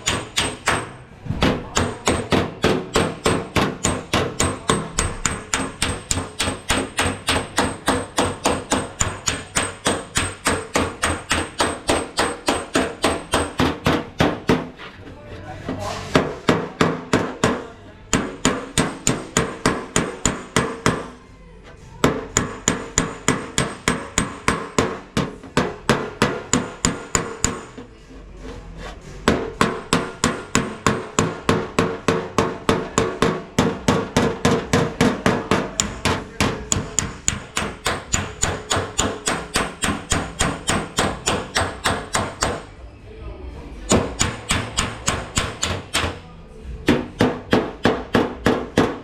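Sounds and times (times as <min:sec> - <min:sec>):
hammer striking sheet metal: 0:00.0 - 0:14.8, 0:15.8 - 0:21.2, 0:22.0 - 0:27.9, 0:29.2 - 0:42.7, 0:43.9 - 0:46.2, 0:46.8 - 0:49.0.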